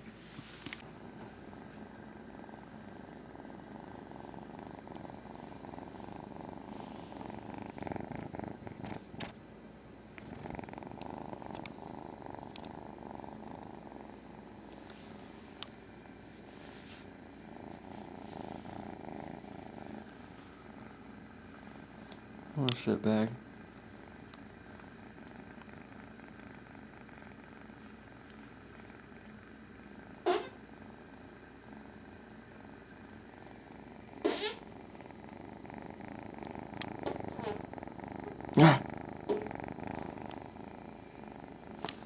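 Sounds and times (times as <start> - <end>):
cat purring: 0.0 - 42.0.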